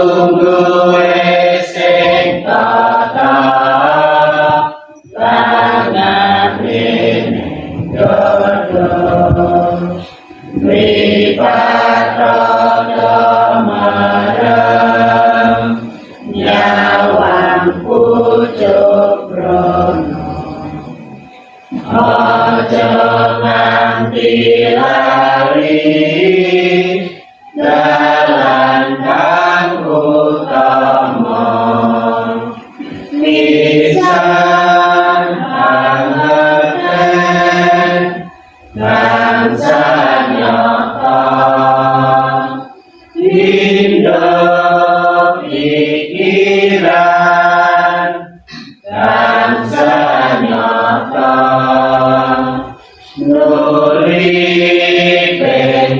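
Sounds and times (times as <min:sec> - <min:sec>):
group singing devotional song: 0:00.0 - 0:55.9.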